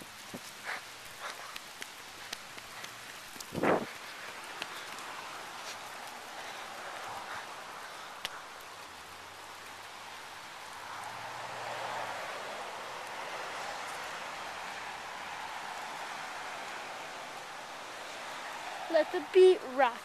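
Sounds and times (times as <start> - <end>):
heavy rain pouring: 0.0 - 20.0
raindrops tapping close by: 0.0 - 20.0.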